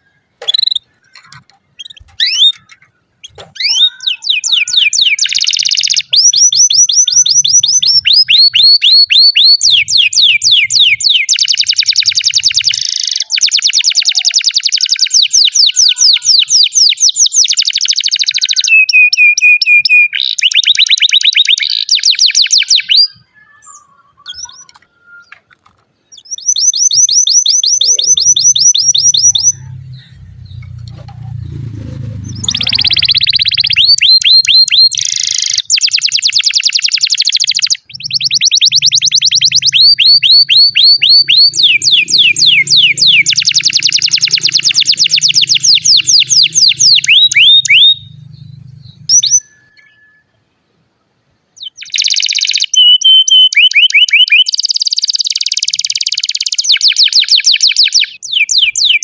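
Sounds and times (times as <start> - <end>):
canary singing trills: 0.0 - 50.6, 51.6 - 59.0.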